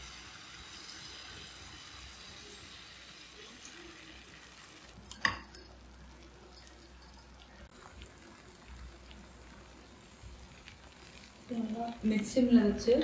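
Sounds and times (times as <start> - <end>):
batter sizzling on a pan: 0.0 - 13.0.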